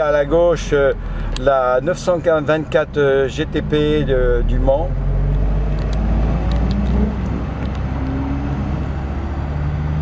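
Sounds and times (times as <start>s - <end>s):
car engine cruising: 0.0s - 10.0s
tyre and road noise: 0.0s - 10.0s.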